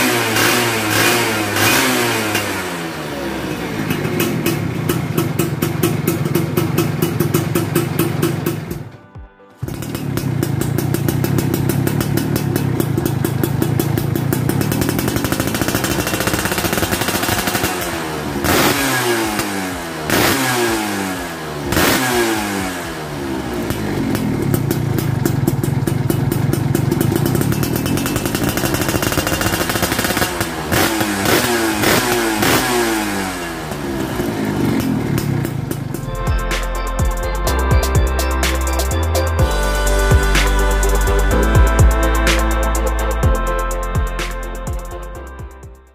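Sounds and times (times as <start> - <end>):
two-stroke motorcycle engine revving: 0.0 - 8.9, 9.6 - 45.9.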